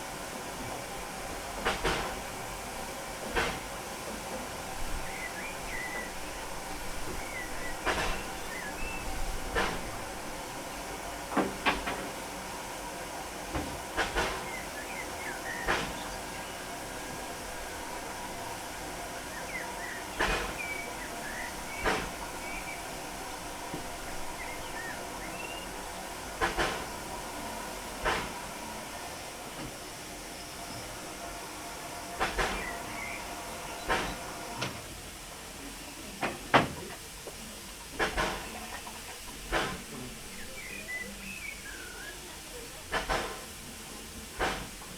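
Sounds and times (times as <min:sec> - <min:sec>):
steam locomotive hissing: 0:00.0 - 0:44.9.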